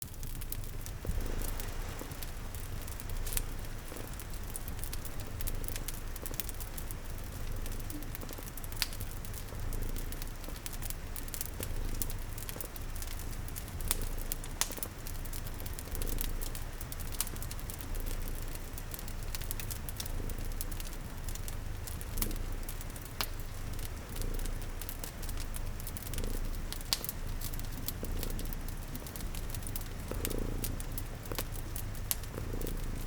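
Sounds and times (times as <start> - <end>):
cat purring: 0.0 - 33.0
crackling fireplace with pops: 0.0 - 33.0
steady rain: 0.0 - 33.0.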